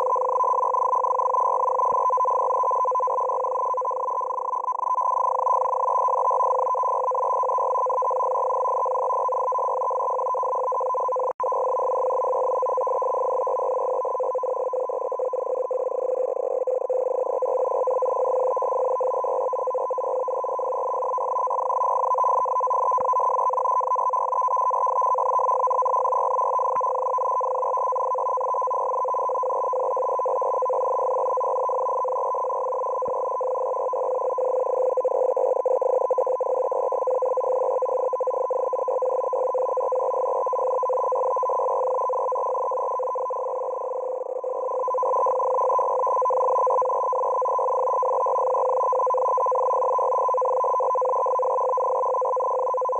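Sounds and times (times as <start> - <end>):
continuous data tone: 0.0 - 52.9.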